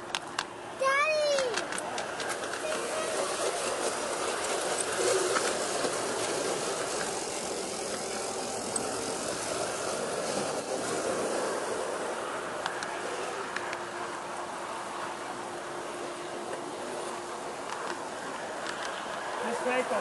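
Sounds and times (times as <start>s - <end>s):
model train running in a pipe tunnel: 0.0s - 20.0s.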